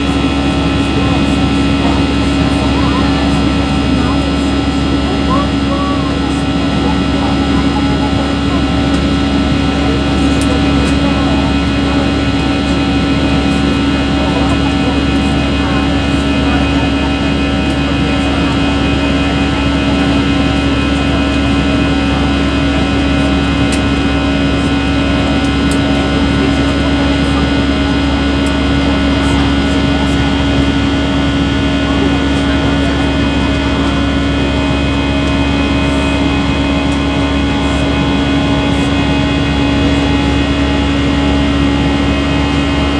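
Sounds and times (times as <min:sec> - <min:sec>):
jet engine whining tones: 0:00.0 - 0:42.9
jet engines droning: 0:00.0 - 0:42.9.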